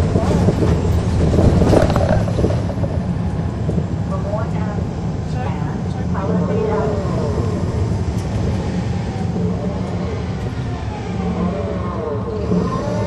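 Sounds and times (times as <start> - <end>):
diesel bus engine running: 0.0 - 13.0
drive axle whine: 0.0 - 13.0.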